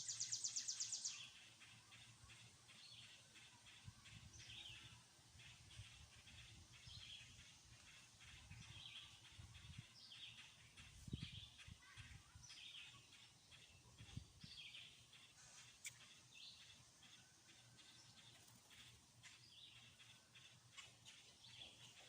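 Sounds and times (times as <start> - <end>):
faint songbird chirps: 0.0 - 22.0.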